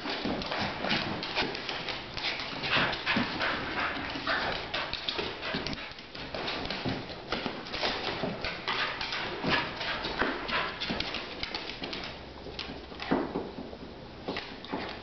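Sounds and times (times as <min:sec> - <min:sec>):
dog paws tapping and scuffling: 0:00.0 - 0:15.0.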